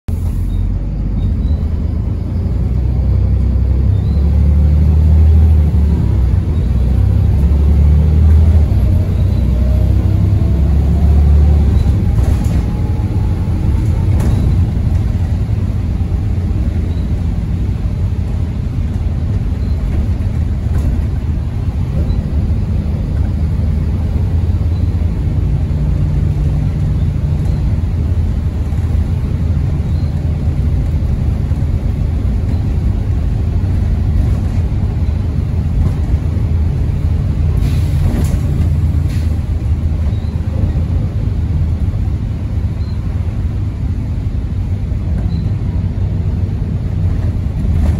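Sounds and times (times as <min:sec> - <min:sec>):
bus engine rumbling: 0:00.1 - 0:47.9
drivetrain whine: 0:00.1 - 0:47.9.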